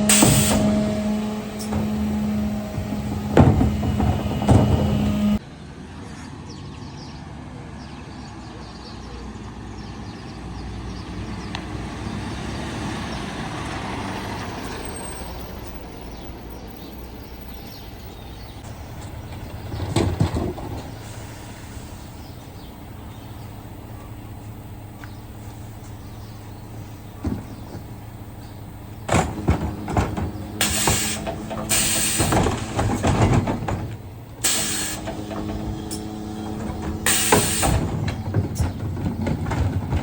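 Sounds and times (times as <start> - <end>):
refuse truck running: 0.0 - 5.4, 10.4 - 40.0.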